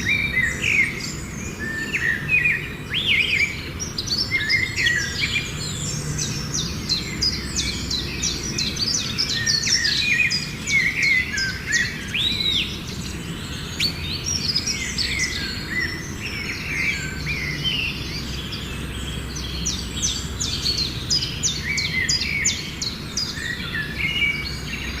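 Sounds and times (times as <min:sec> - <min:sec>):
small birds chirping chorus: 0:00.0 - 0:25.0.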